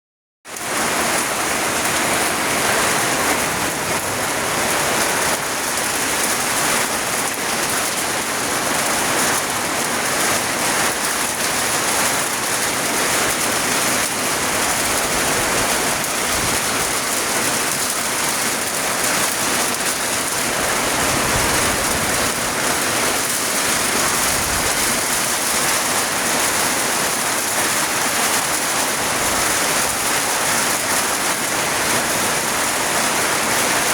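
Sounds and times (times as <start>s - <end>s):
heavy rain in strong wind: 0.5s - 33.9s.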